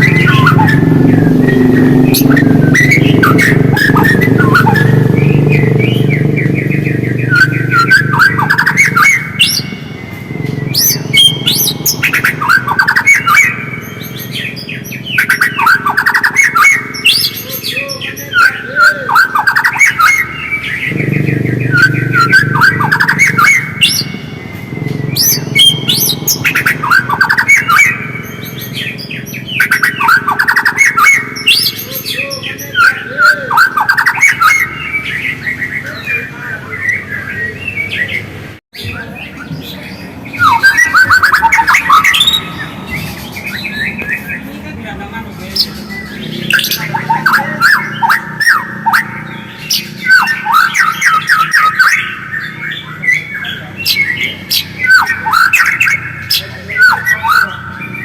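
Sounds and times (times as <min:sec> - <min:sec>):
bird singing chattering whistles: 0:00.0 - 0:44.5, 0:45.3 - 0:58.0.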